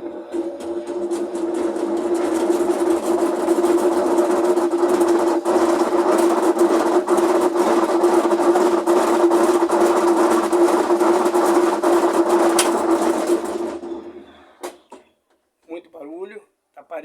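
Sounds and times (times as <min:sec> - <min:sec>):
washing machine grinding and knocking: 0:00.0 - 0:15.0.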